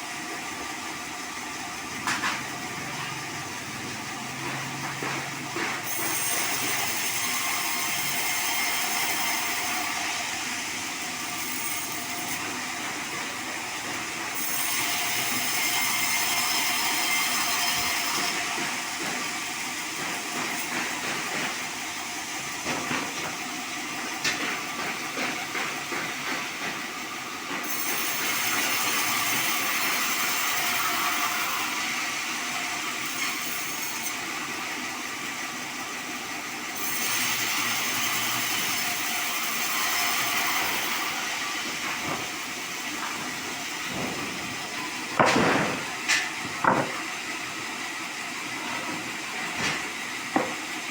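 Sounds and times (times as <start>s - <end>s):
bandsaw cutting wood: 0.0s - 50.9s.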